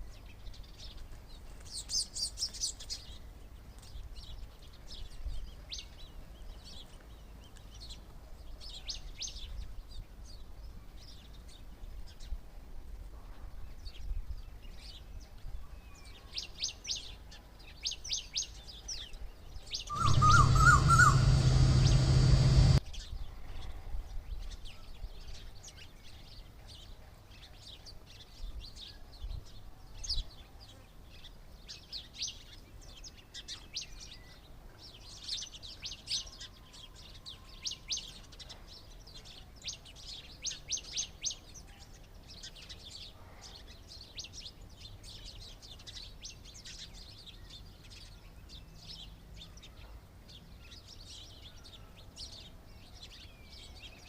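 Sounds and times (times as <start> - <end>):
small birds chirping: 0.0 - 12.4, 13.7 - 23.1, 24.3 - 54.0.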